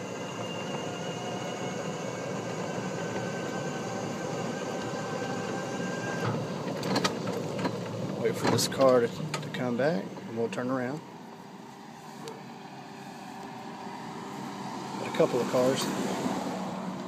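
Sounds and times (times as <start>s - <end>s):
electric cart driving on asphalt: 0.0s - 17.0s.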